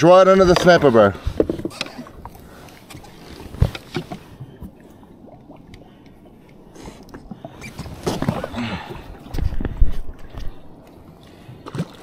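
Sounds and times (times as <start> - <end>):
water splashing: 0.3 - 12.0.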